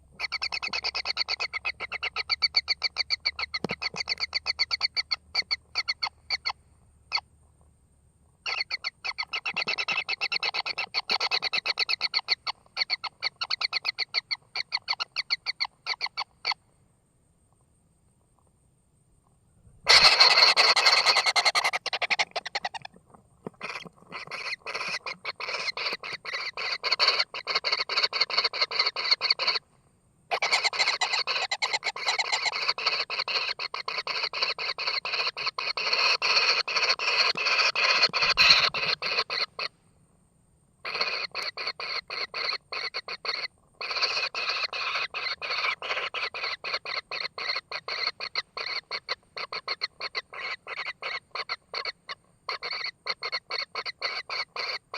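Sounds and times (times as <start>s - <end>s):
chicks raspy begging calls: 0.1s - 7.2s, 8.4s - 16.6s, 19.8s - 29.6s, 30.3s - 39.7s, 40.8s - 54.9s.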